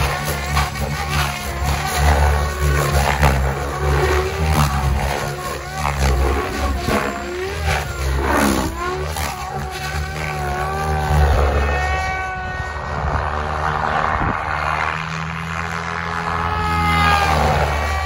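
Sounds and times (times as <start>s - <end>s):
rc helicopter rotor and motor whine: 0.0s - 18.0s.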